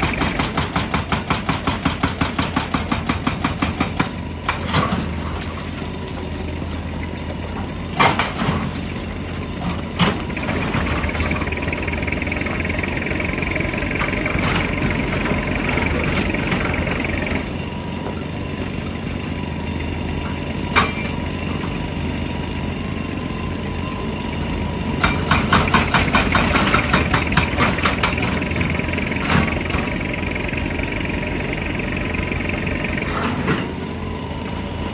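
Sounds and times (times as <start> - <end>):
excavator diesel engine running: 0.0 - 34.9
hydraulic rock breaker hammering: 0.0 - 34.9.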